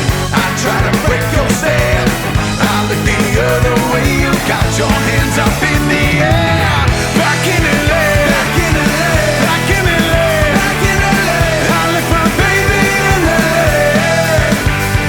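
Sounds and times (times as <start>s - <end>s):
pitch-bending lead melody: 0.0s - 15.0s
rock band music: 0.0s - 15.0s
steady drum beat: 0.0s - 15.0s.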